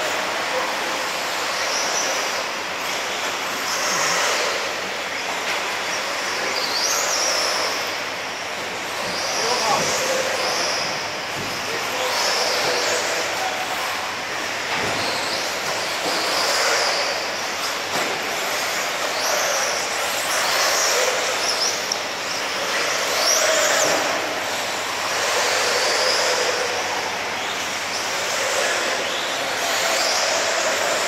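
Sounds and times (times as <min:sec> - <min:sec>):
electric rc car motor whine: 0:00.0 - 0:31.0
steady noisy rush: 0:00.0 - 0:31.0.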